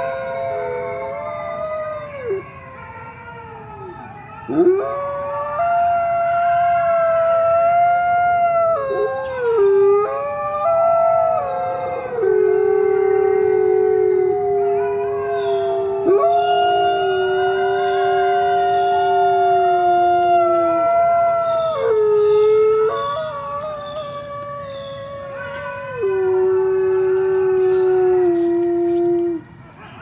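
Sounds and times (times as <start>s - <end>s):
coyotes howling: 0.0s - 30.0s.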